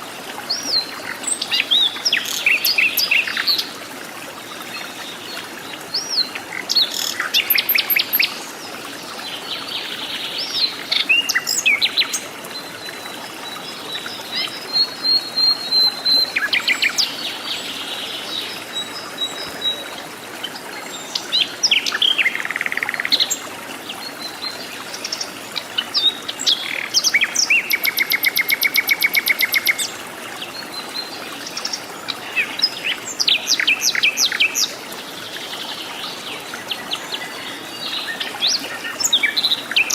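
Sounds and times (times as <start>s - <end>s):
forest birds calling and singing: 0.4s - 39.9s.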